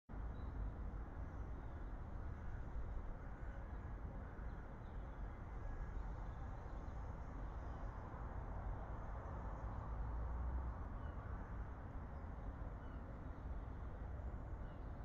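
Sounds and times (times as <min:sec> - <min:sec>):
low outdoor rumble: 0:00.1 - 0:15.0.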